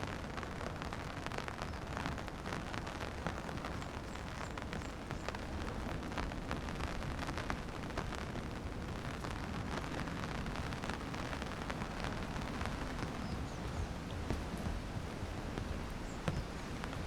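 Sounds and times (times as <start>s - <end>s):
heavy rain: 0.0s - 17.0s
raindrops tapping: 0.4s - 17.0s.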